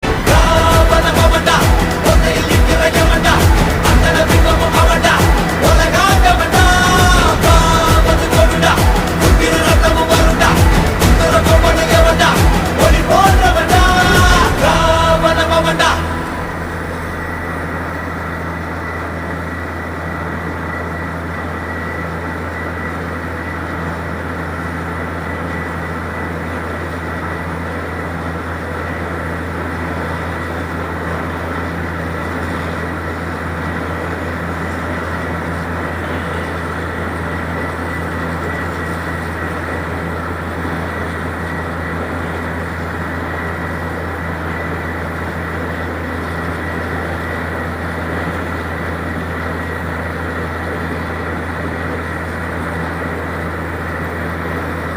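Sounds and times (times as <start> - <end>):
drilling rig low drone: 0.0 - 54.9
thin high whine: 0.0 - 54.9.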